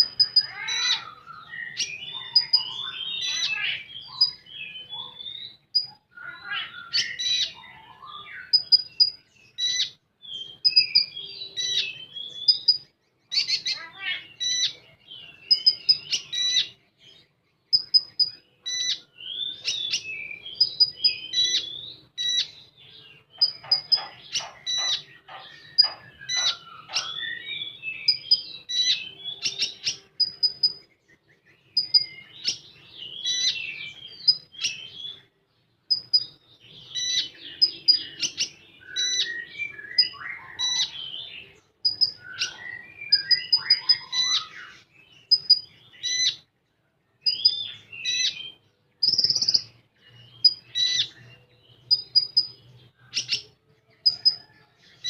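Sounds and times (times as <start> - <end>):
songbird chirps and trills: 0.0 - 55.0.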